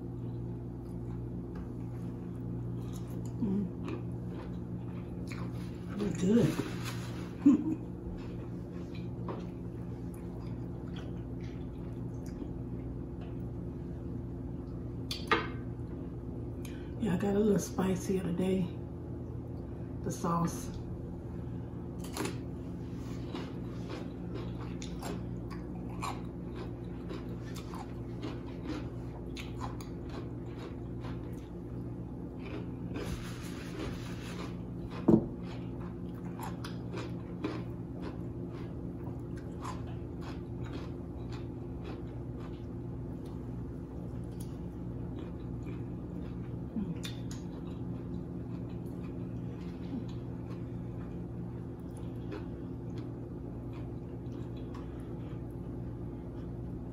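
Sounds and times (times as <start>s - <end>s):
chewing and crunching cucumber: 0.0s - 16.8s, 20.6s - 56.9s
steady low hum: 0.0s - 56.9s.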